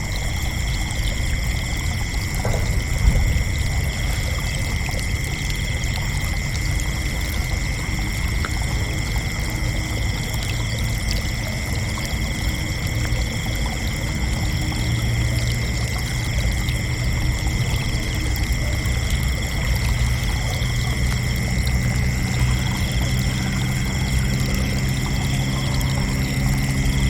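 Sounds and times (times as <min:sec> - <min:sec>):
crickets trilling: 0:00.0 - 0:27.0
low rumbling noise: 0:00.0 - 0:27.0.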